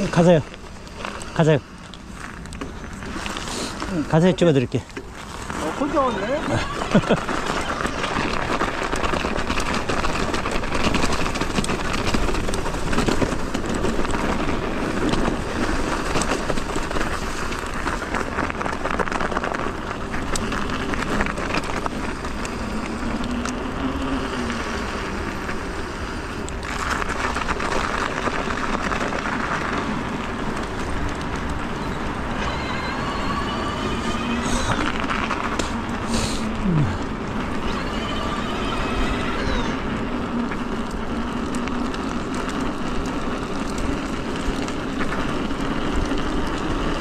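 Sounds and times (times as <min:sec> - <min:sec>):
bike clicks and rattles: 0:00.0 - 0:47.0
tyre and wind noise: 0:00.0 - 0:47.0.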